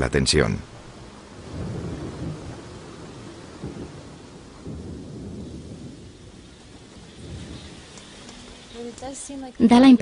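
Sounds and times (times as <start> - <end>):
rain falling steadily: 0.0 - 10.0
low rumbles of thunder: 0.6 - 9.4.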